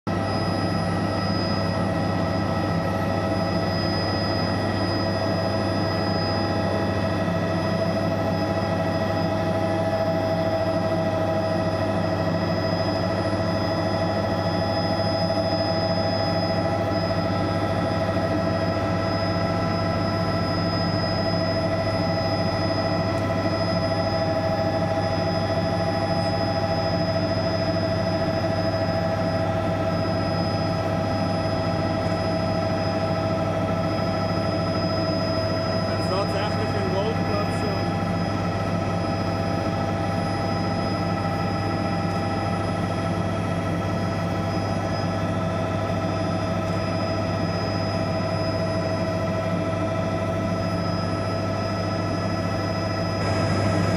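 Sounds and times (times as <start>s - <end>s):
helicopter cabin drone: 0.0s - 53.9s
steady engine whines: 0.0s - 53.9s.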